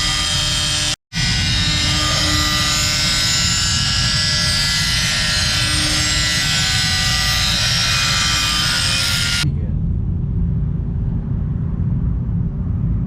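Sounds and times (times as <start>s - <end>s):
machine rumbling with high whine: 0.0s - 13.0s.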